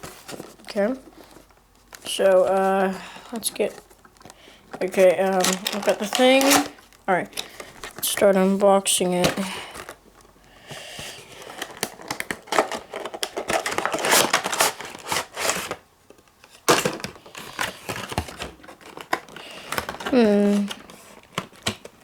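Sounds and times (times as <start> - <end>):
packaging crinkling and rustling: 0.0 - 10.4, 11.0 - 22.0.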